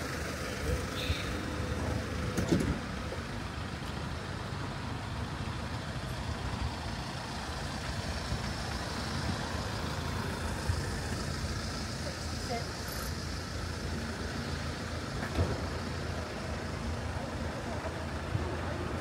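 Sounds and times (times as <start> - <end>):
road traffic: 0.0 - 19.0
vehicle engines rumbling: 0.0 - 19.0.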